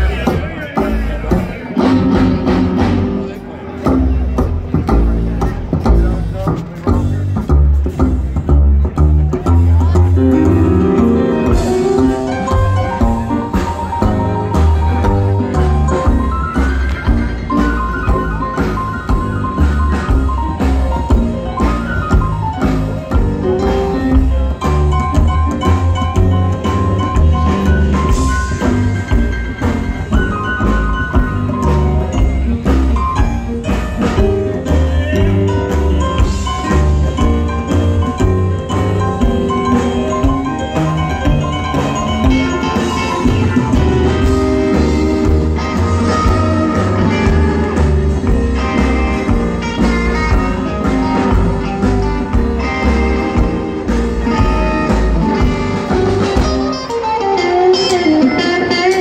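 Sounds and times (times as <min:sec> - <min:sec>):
drums keeping time: 0:00.0 - 0:59.0
electric guitar lead: 0:00.0 - 0:59.0
upright bass walking line: 0:00.0 - 0:59.0.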